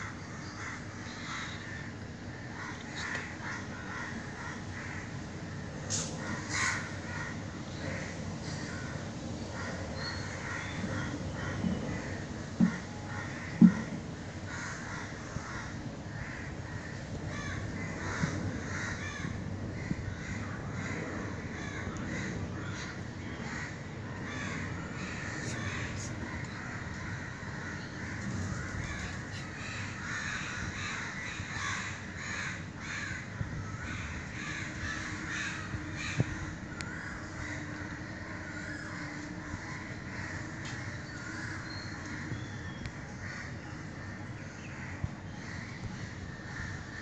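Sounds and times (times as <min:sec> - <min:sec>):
birds calling: 0:00.0 - 0:47.0
low background noise: 0:00.0 - 0:47.0.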